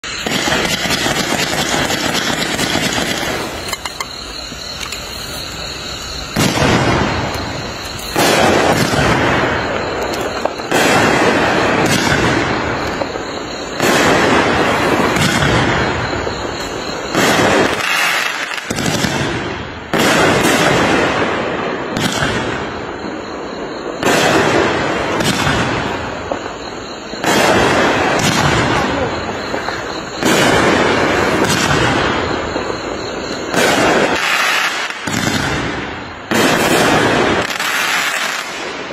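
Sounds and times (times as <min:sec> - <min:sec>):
firework bangs: 0:00.0 - 0:38.9
firework crackle and hiss: 0:00.0 - 0:38.9.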